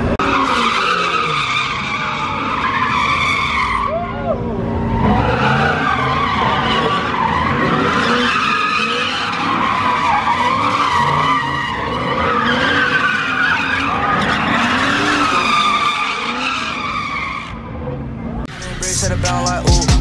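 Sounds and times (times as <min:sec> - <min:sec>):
car tyres squealing: 0:00.0 - 0:19.1
engines revving: 0:00.0 - 0:20.0.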